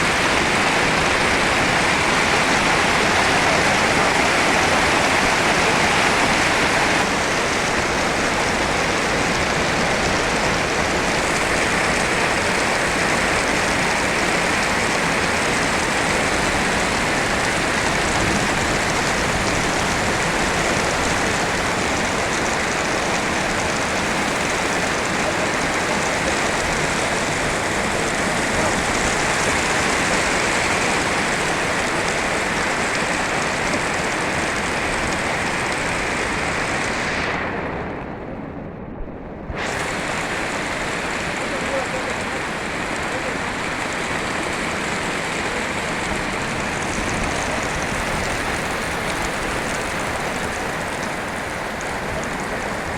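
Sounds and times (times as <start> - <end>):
heavy rain falling: 0.0 - 37.9, 39.6 - 52.9.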